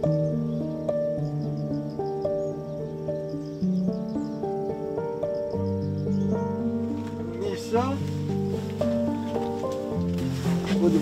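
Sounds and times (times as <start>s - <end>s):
gentle melody with held notes: 0.0s - 11.0s.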